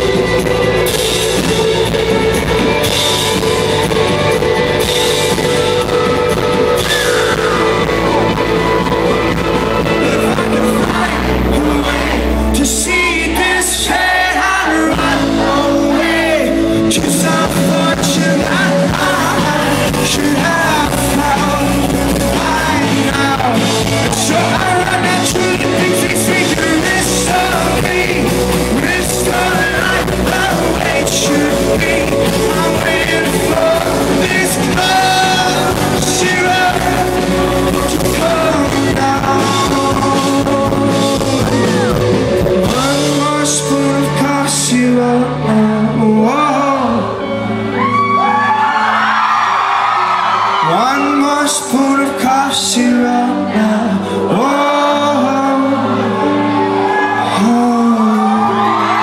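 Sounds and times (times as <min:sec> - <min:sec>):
person singing: 0:00.0 - 0:48.8, 0:50.5 - 0:59.0
rock band playing live: 0:00.0 - 0:59.0.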